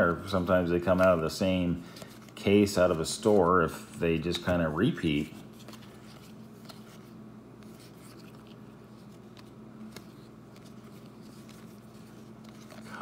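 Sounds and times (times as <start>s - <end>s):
cards flipping: 0.0s - 13.0s
low steady hum: 0.0s - 13.0s.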